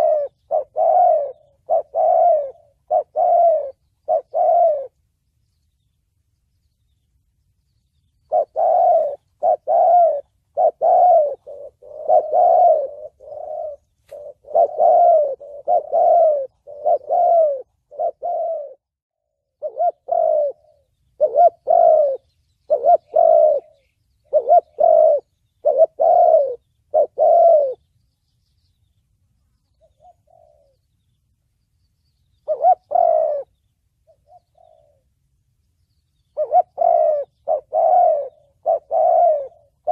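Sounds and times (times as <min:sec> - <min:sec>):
dove cooing: 0:00.0 - 0:05.0, 0:08.2 - 0:27.8, 0:29.8 - 0:31.1, 0:32.3 - 0:35.2, 0:36.2 - 0:39.9.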